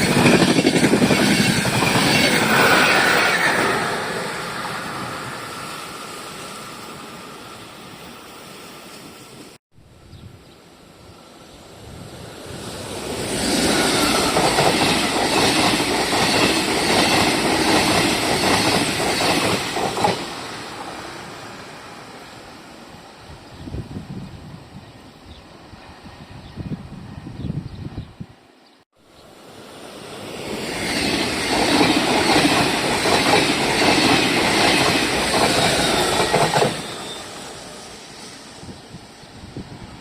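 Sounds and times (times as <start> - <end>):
train passing: 0.0 - 40.0.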